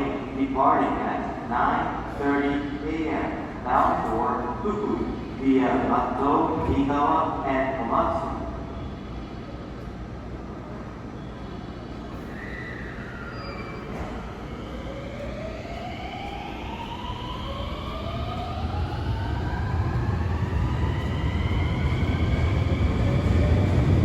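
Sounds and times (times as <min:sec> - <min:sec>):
low train rumble: 0:00.0 - 0:24.0.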